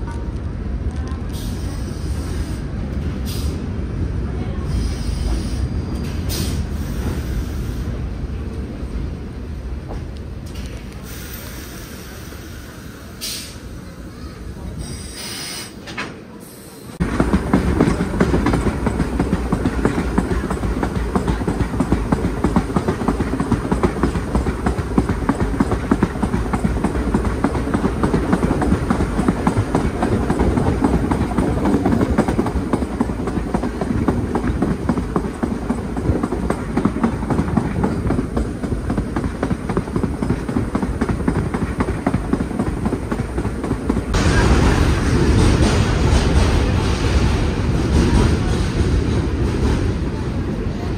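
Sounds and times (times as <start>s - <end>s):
subway train wheels rumbling on rails: 0.0s - 50.9s
train rattling: 0.0s - 50.9s.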